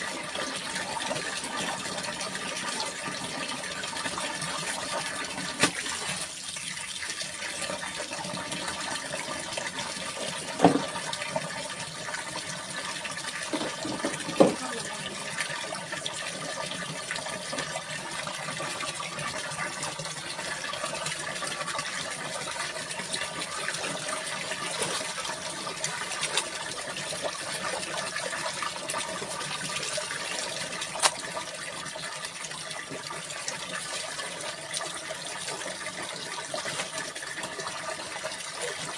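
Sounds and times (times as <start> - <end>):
water splashing in tubs: 0.0 - 38.9.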